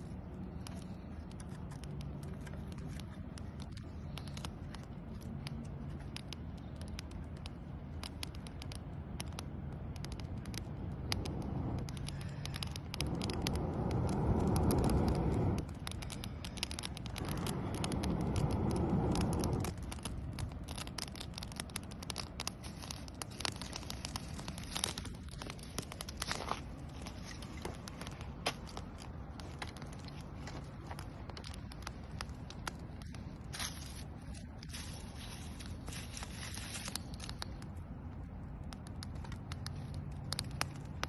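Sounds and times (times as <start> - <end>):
campfire crackling and popping: 0.0 - 41.0
rushes of air: 0.0 - 41.0.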